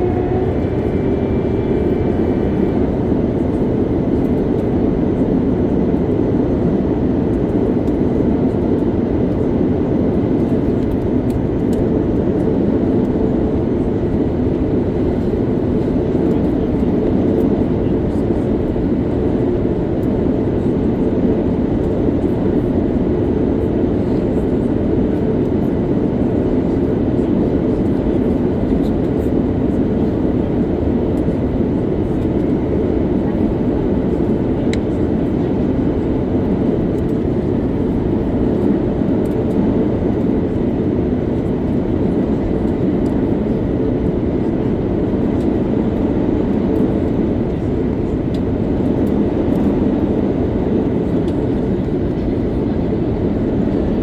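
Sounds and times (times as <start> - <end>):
airplane cabin noise: 0.0 - 54.0.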